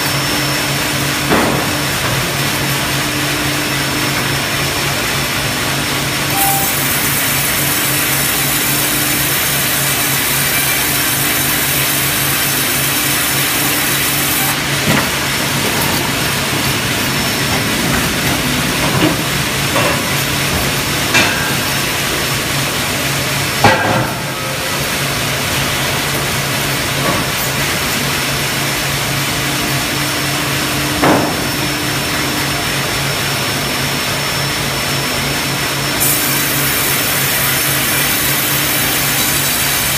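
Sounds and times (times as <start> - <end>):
sawmill machinery din: 0.0 - 39.9.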